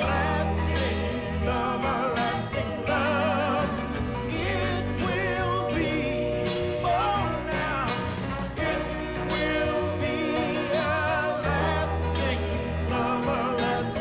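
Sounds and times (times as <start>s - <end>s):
song with band and vibrato vocals: 0.0s - 14.0s.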